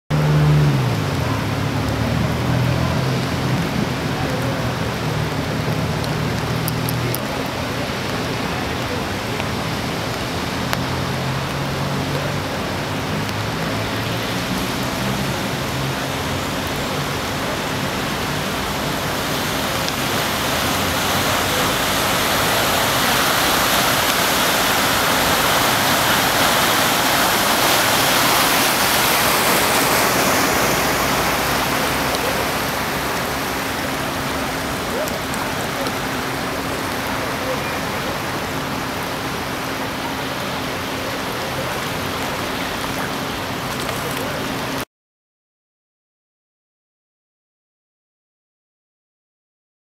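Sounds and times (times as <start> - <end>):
car pushing through floodwater: 0.1 - 44.8
rain and floodwater rushing: 0.1 - 44.9.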